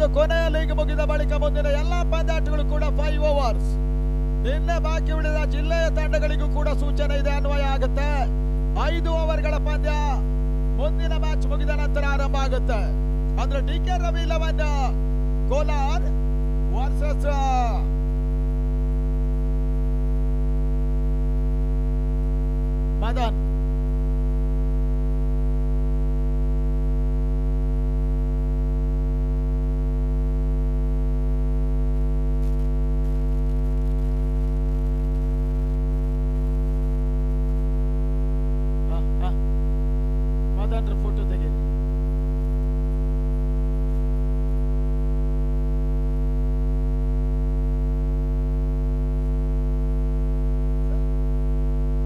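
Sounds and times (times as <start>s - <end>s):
electrical mains hum: 0.0s - 52.0s.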